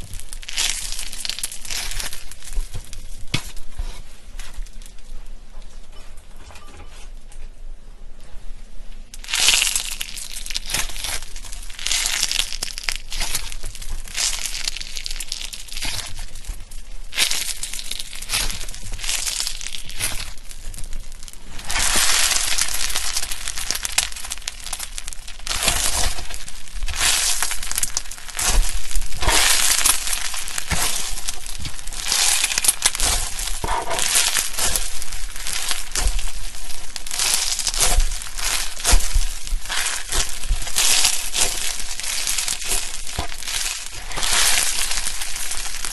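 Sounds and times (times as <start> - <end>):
slime crackling when squeezed: 0.0 - 3.5, 9.2 - 45.9.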